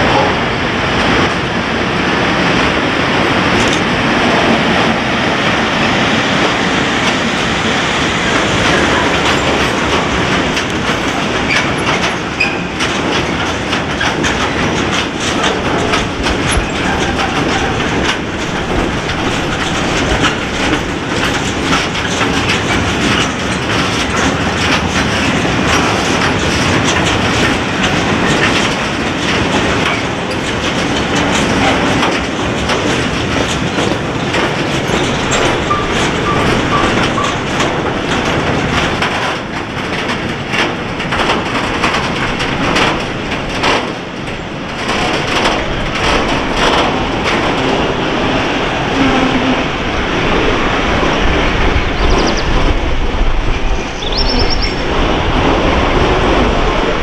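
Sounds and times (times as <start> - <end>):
freight train rumbling: 0.0 - 57.0
wheels clattering over rails: 0.0 - 57.0.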